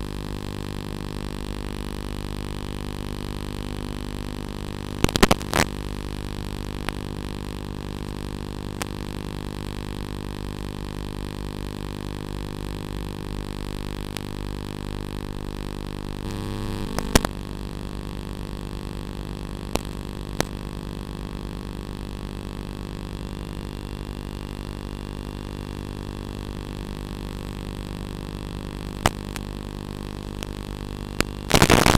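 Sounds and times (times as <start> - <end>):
steady multi-pitched hum: 0.0 - 31.9.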